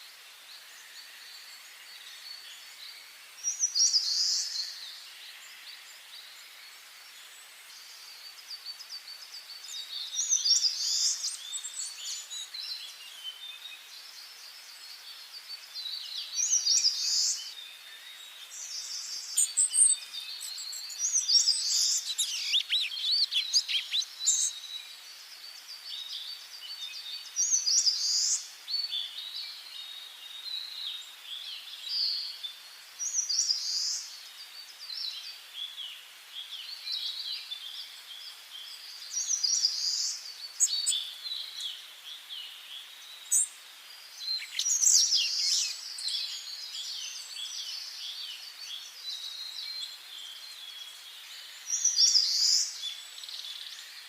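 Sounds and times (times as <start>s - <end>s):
bird song phrase: 0.0s - 54.0s
faint steady hiss: 0.0s - 54.0s
birds chirping: 7.2s - 54.0s.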